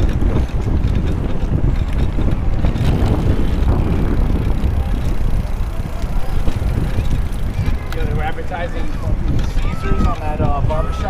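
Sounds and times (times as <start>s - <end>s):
road noise: 0.0s - 11.0s
wind rumble on microphone: 0.0s - 11.0s.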